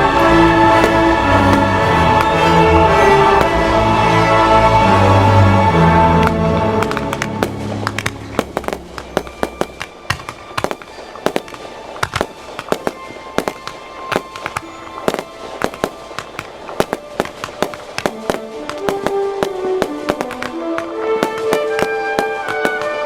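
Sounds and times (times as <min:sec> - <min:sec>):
background music: 0:00.0 - 0:23.0
fireworks banging: 0:00.0 - 0:23.0.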